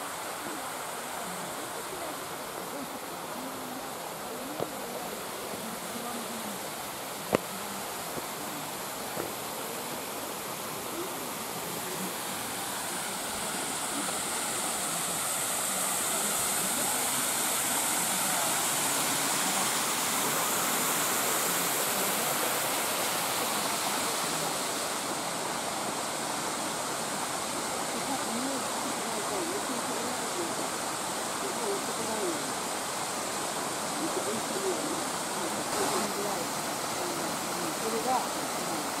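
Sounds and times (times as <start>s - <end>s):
water pouring down stone cascade: 0.0s - 39.0s.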